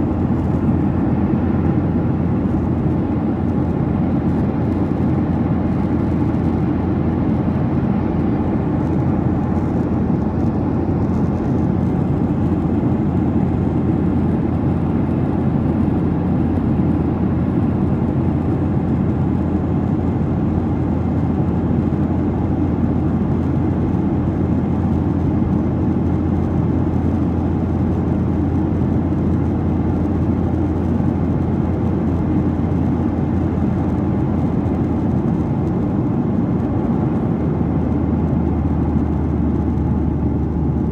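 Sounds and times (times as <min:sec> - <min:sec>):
airplane cabin noise in flight: 0:00.0 - 0:40.9.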